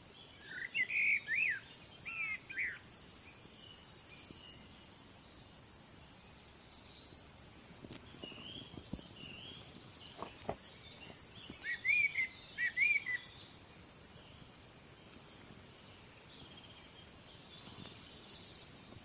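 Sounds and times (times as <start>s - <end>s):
distant bird calls: 0.0s - 19.0s
songbird chirping: 0.0s - 19.0s.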